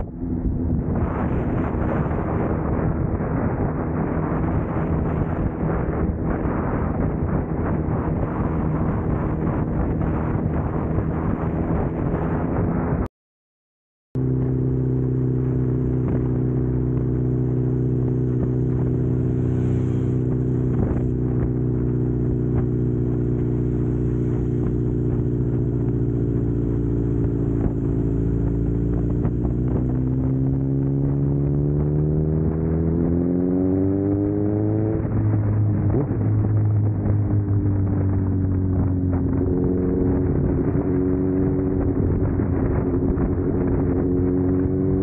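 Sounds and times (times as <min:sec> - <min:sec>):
motorcycle engine cruising: 0:00.0 - 0:13.1, 0:14.2 - 0:45.0.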